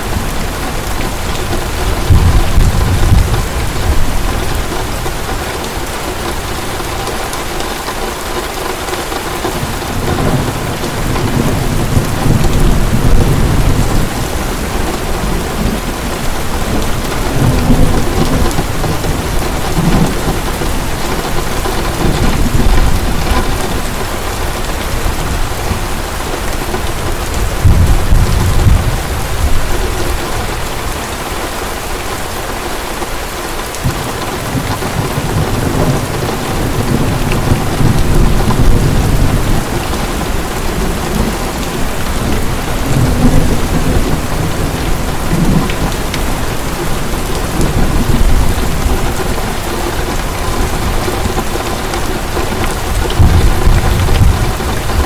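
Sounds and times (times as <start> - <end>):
thunder rumbling: 0.0 - 7.6, 9.3 - 31.4, 33.8 - 55.0
heavy rain pouring: 0.0 - 55.0.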